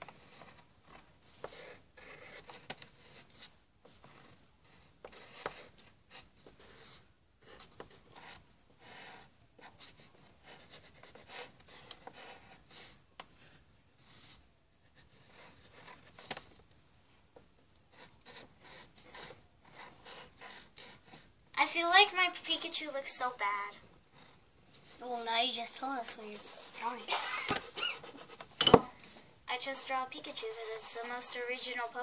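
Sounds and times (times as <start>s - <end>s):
pencil scratching on paper: 0.0s - 16.5s, 17.8s - 21.4s, 22.5s - 28.7s, 29.5s - 32.0s.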